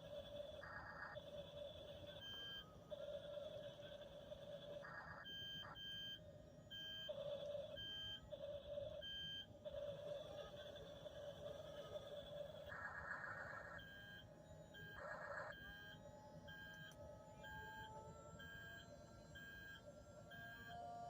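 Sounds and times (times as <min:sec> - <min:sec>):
faint electronic beeping: 0:00.0 - 0:21.0.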